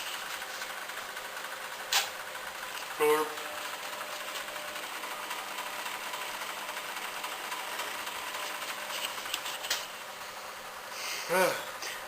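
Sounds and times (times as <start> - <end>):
small motor whirring: 0.0 - 12.0.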